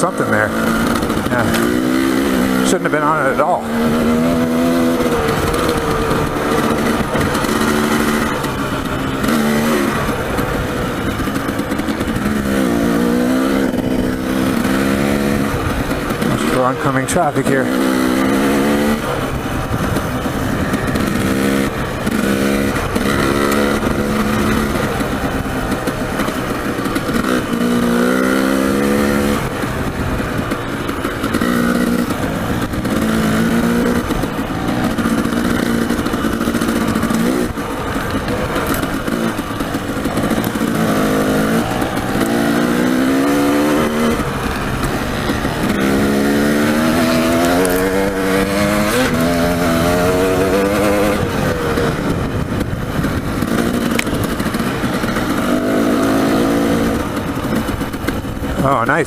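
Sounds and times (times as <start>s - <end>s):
dirt bike engine revving: 0.0s - 59.0s
ground noise: 0.0s - 59.0s
wind noise: 3.5s - 16.8s, 17.7s - 59.0s.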